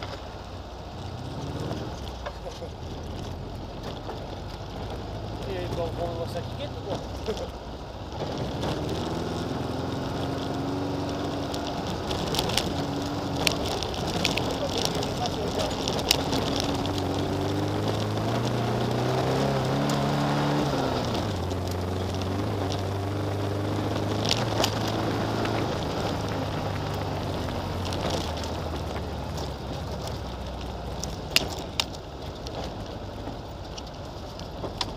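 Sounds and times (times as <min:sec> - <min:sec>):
gravel knocking under tyres: 0:00.0 - 0:34.9
off-road vehicle engine: 0:00.0 - 0:34.9.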